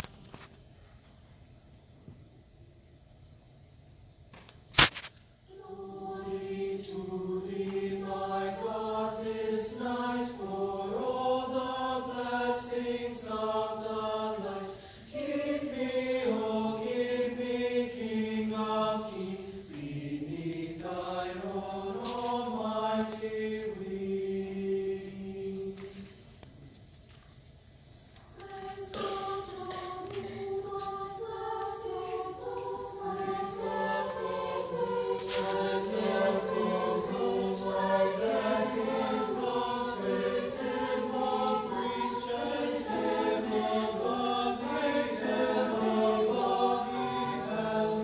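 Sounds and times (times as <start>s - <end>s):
choir singing held chords: 5.5s - 26.4s, 28.2s - 48.0s.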